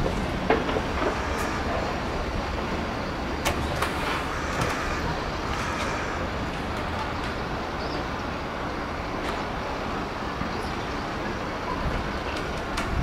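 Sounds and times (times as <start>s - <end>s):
wind buffeting microphone: 0.0s - 8.7s, 11.2s - 13.0s
distant town traffic: 0.0s - 13.0s.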